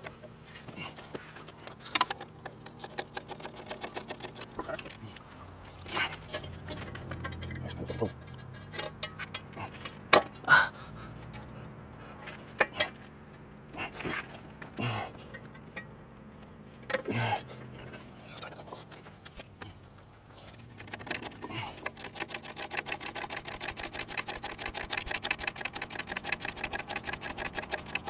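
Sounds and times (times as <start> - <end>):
metal tools clinking and rattling: 0.1 - 28.0.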